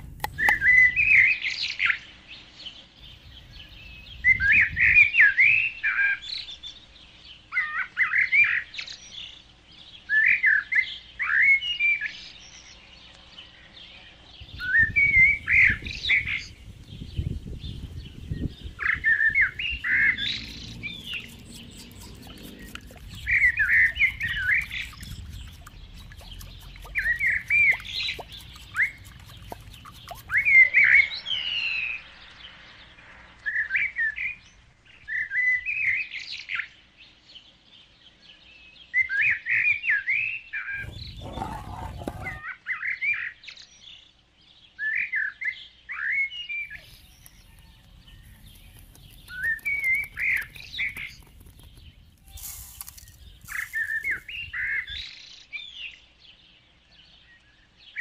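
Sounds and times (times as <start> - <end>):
songbird chirping: 0.0 - 42.5, 43.5 - 58.0.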